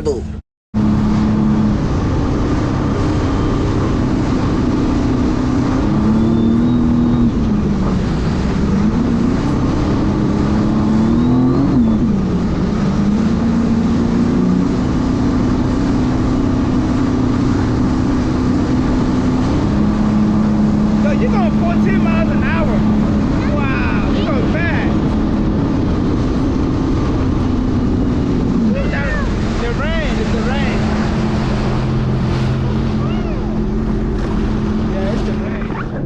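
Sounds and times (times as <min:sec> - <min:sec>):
water wash: 0:00.0 - 0:36.0
watercraft engine running: 0:00.0 - 0:36.0
wind noise: 0:00.8 - 0:36.0.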